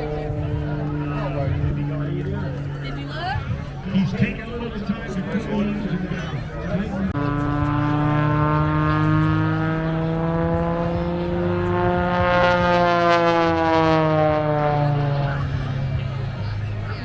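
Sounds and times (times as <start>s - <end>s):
propeller plane engine passing: 0.0s - 17.0s.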